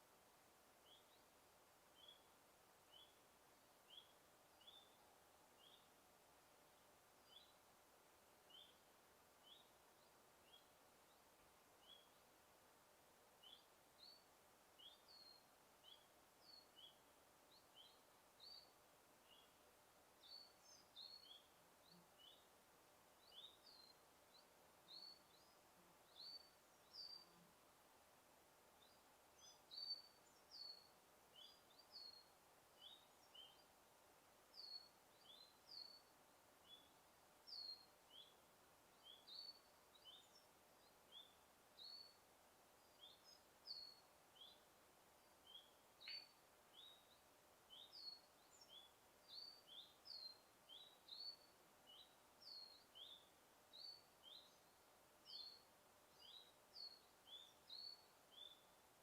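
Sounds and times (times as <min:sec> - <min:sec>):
faint even hiss: 0:00.0 - 0:59.0.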